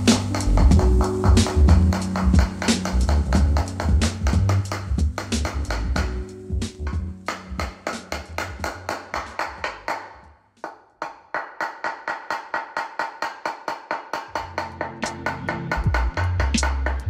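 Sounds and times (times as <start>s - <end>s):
mallet hammering sheet metal: 0.0s - 17.0s.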